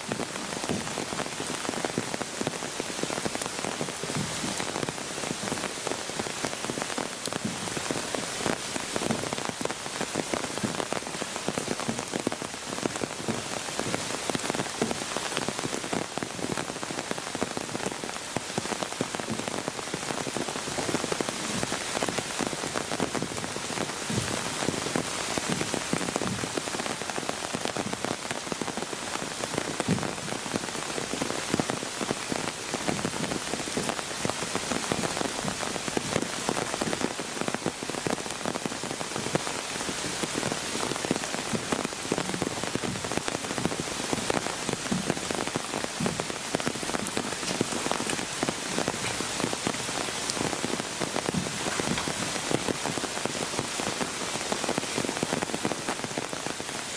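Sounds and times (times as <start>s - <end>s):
rain on rock and mud: 0.0s - 56.9s.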